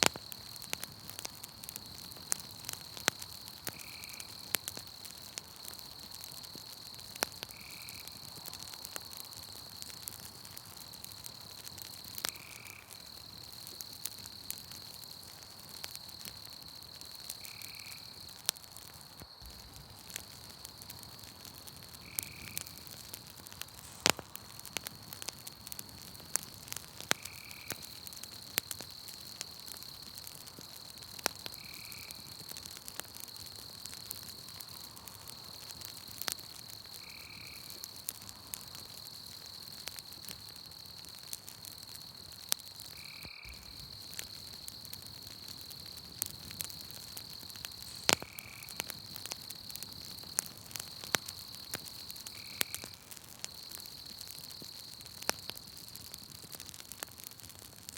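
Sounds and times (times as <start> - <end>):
night insects chirring: 0.0 - 57.2
campfire crackling and popping: 0.0 - 57.9.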